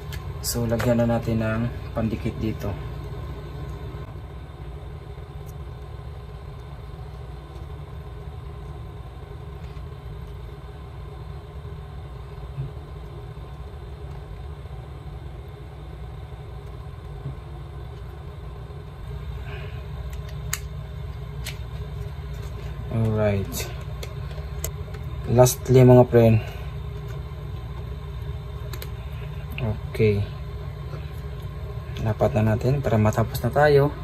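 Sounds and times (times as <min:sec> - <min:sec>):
low background rumble: 0:00.0 - 0:34.0.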